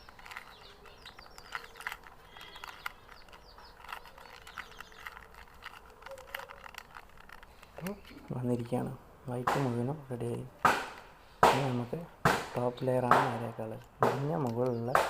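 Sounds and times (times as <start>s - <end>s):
puzzle cube clicking: 0.0s - 11.9s, 12.6s - 15.0s
birds chirping faintly: 0.0s - 15.0s.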